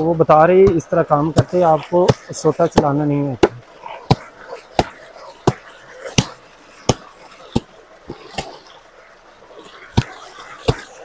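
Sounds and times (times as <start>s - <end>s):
water gushing: 0.0s - 11.0s
wooden stick beating wet blankets: 0.4s - 8.7s, 9.6s - 11.0s.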